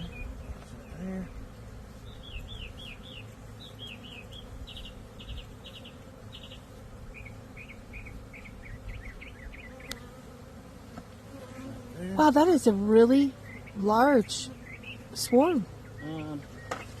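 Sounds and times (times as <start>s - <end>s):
songbird chirping: 0.0s - 10.1s, 12.4s - 17.0s
bee swarm buzzing: 0.0s - 17.0s.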